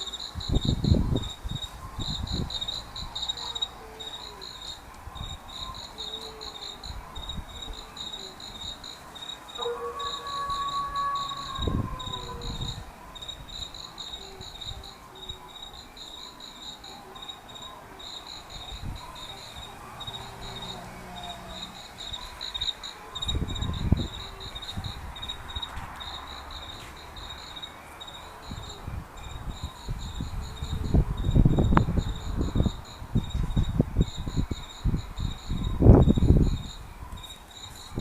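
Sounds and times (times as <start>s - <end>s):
crickets chirping: 0.0s - 38.0s.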